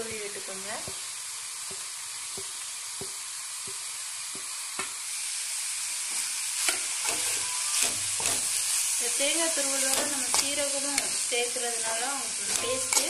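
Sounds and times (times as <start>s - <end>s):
greens sizzling in a pan: 0.0s - 13.0s.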